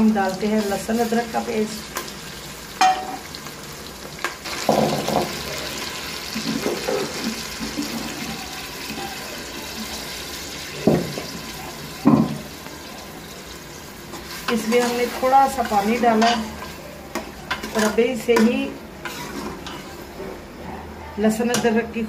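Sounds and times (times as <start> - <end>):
onions sizzling in hot oil: 0.0 - 20.2.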